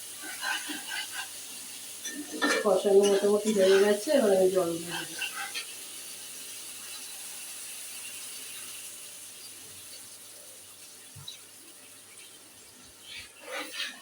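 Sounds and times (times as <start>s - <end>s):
water pouring into frying pan: 0.0s - 14.0s.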